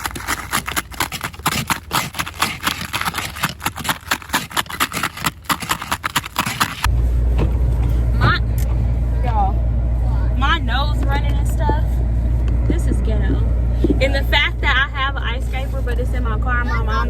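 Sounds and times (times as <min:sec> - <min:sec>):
steady low rumble: 0:00.0 - 0:16.6.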